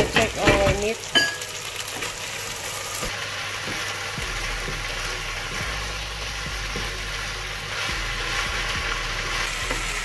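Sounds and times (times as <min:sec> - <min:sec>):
beef sizzling in oil: 0:00.0 - 0:10.0.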